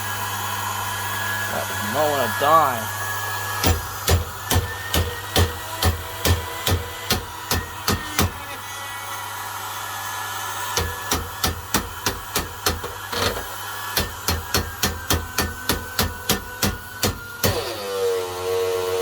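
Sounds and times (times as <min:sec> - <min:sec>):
motor humming with whine: 0:00.0 - 0:19.0.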